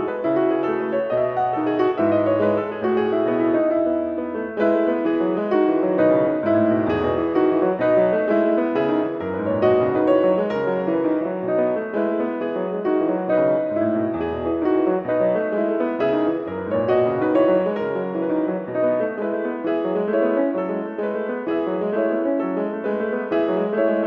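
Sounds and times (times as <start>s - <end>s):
grand piano playing: 0.0s - 24.0s.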